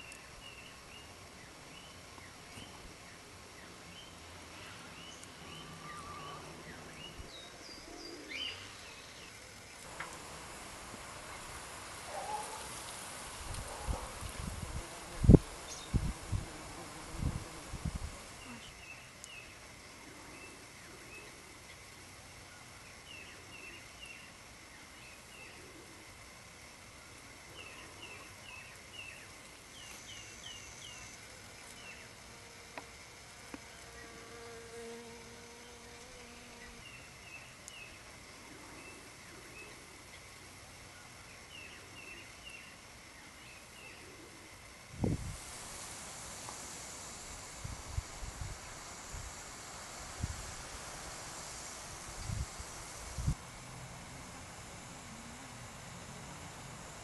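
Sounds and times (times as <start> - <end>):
faint steady high hum: 0.0 - 57.0
insect buzzing: 3.9 - 21.8, 22.8 - 40.2, 40.9 - 57.0.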